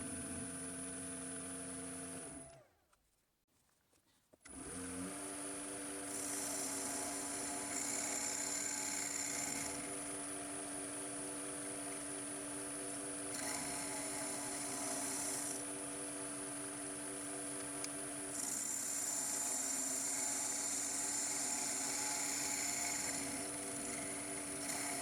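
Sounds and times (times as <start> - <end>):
machine motor whining: 0.0 - 2.7, 4.5 - 15.8, 16.5 - 25.0.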